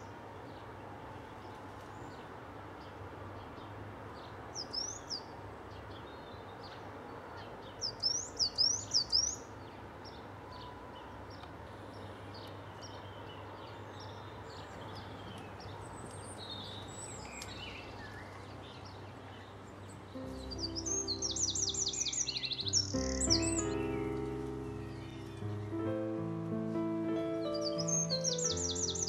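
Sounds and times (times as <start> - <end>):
low background hiss: 0.0 - 29.0
songbirds chirping: 0.0 - 29.0.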